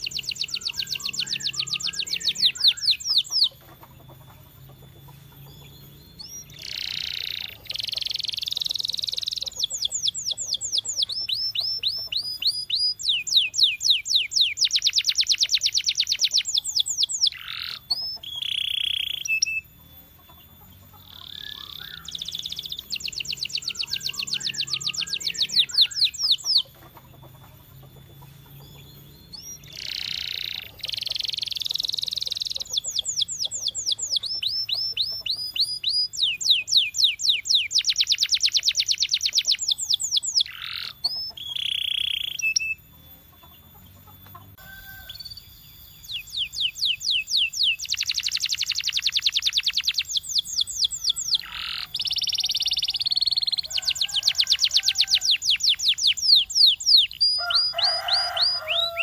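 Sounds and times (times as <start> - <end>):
canary trilling: 0.0 - 59.0.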